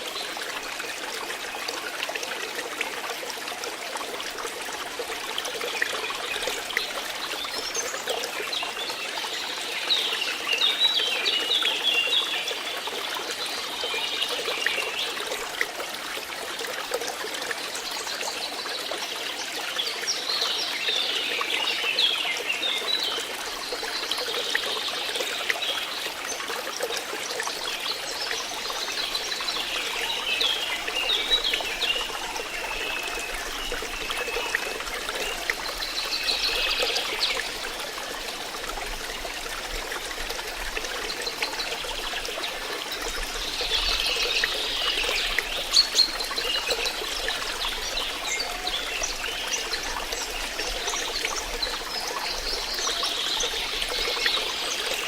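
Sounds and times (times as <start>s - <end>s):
water trickling and babbling: 0.0s - 55.0s.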